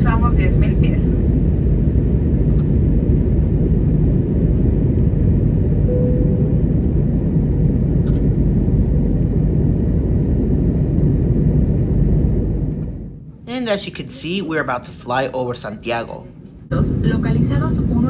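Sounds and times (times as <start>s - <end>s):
aircraft cabin engine rumble: 0.0s - 18.0s.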